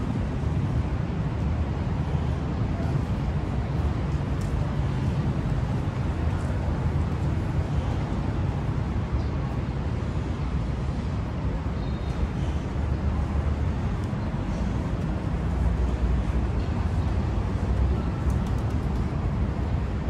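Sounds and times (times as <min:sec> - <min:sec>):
low rumble of engines: 0:00.0 - 0:20.0.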